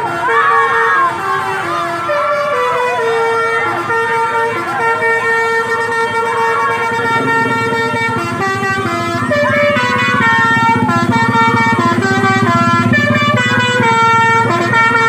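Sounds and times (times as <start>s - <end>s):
bus horn playing a melody: 0.0s - 15.0s.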